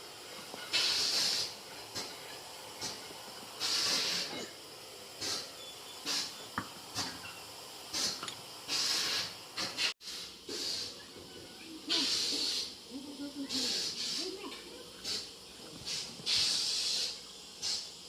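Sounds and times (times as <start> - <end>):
short bursts of hissing air: 0.7 - 11.0, 11.9 - 12.9, 13.5 - 18.0.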